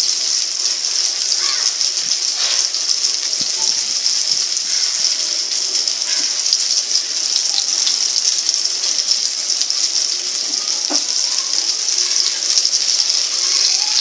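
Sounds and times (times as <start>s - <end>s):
fish sizzling in oil: 0.0s - 14.0s.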